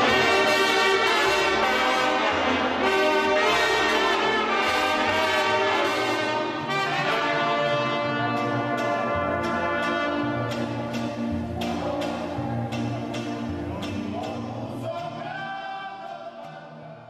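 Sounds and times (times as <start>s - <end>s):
sharp percussive strikes: 0.0s - 14.6s
brass band playing: 0.0s - 15.5s.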